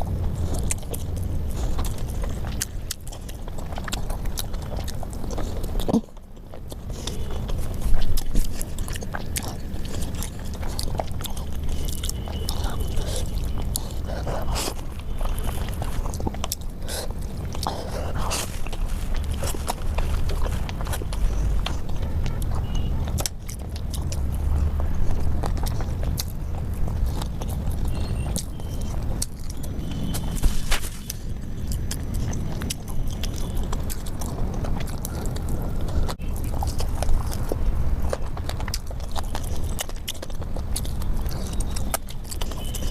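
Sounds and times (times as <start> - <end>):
steady low rumble: 0.0 - 42.0
chewing and crunching food: 0.0 - 42.9.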